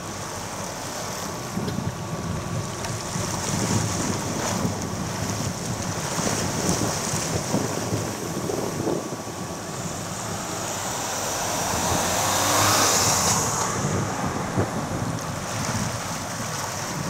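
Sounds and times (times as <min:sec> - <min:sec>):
small waves on water: 0:00.0 - 0:17.0
wind buffeting microphone: 0:01.3 - 0:17.0.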